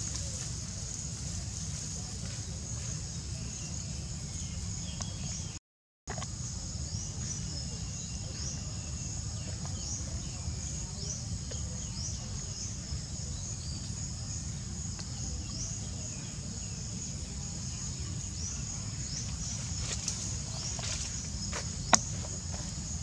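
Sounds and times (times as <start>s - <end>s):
low outdoor rumble: 0.0s - 5.6s, 6.2s - 23.0s
high-pitched insect chorus: 0.0s - 23.0s.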